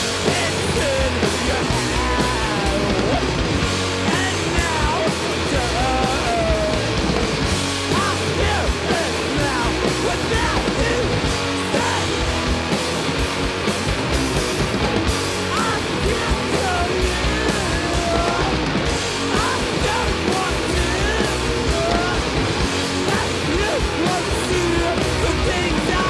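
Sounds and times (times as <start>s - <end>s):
bass guitar: 0.0s - 26.0s
distorted electric guitar: 0.0s - 26.0s
drum kit with cymbals: 0.0s - 26.0s.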